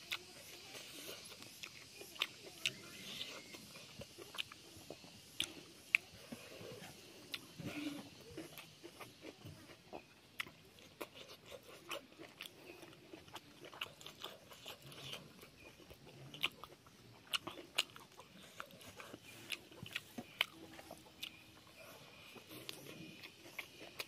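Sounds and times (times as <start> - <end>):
person chewing crunchy food: 0.0 - 24.0.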